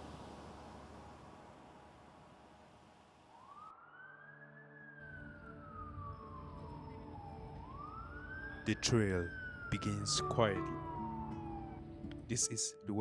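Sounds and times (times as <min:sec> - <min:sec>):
emergency siren wailing: 0:00.0 - 0:12.2.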